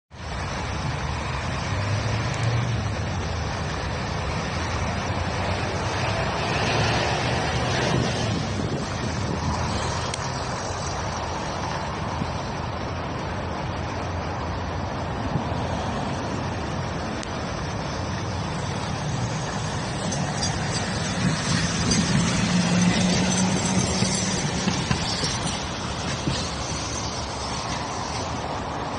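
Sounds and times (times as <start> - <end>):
city road traffic rumble: 0.1 - 28.9.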